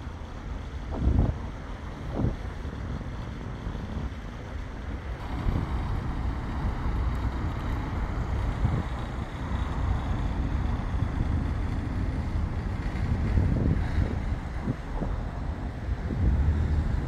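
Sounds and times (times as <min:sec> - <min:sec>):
road traffic passing: 0:00.0 - 0:17.0
wind rumbling on microphone: 0:00.0 - 0:17.0.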